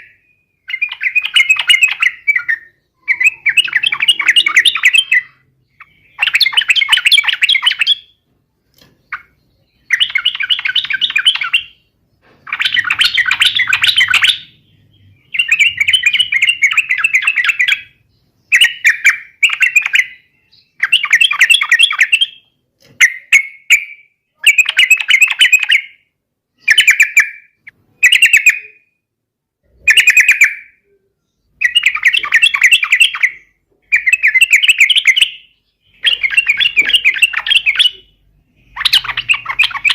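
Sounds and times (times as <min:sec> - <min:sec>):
bulbul chattering song: 0:00.0 - 0:29.0, 0:29.6 - 0:39.9.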